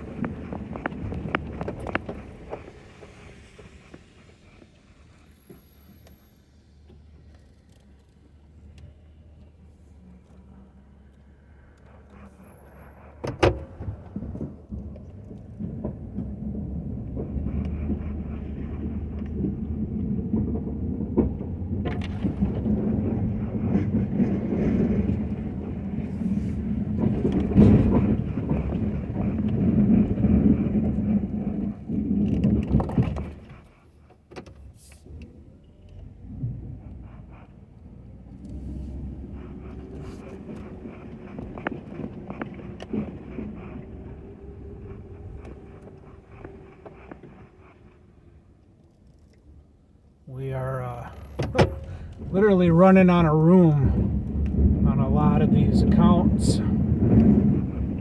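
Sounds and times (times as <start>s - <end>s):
pickup truck engine rumbling: 0.0s - 58.0s.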